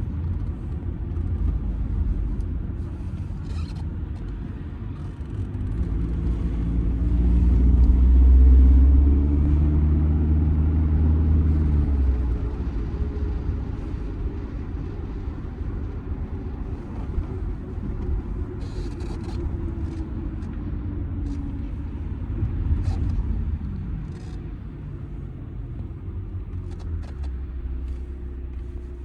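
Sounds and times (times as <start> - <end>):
diesel car engine accelerating: 0.0 - 29.0
road noise: 0.0 - 29.0.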